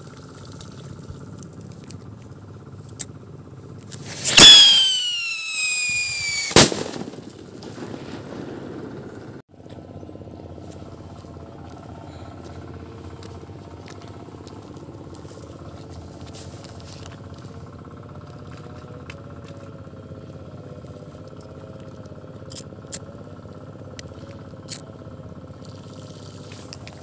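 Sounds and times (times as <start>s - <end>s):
steady engine-like drone: 0.0s - 27.0s.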